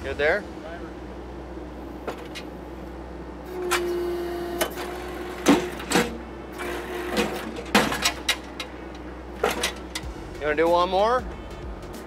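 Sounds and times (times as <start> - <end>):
hydraulic whine: 0.0 - 10.4
engine hum: 0.0 - 12.0.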